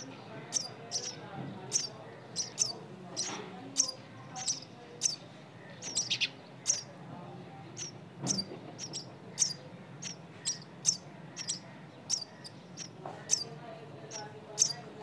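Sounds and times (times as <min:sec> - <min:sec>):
nestling birds begging chirps: 0:00.0 - 0:15.0.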